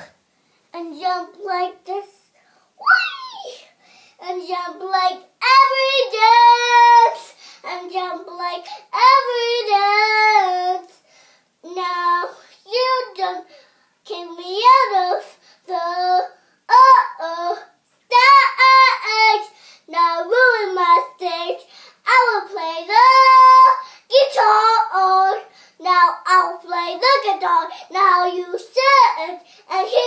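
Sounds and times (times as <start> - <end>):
girl singing chant: 4.2 - 30.0.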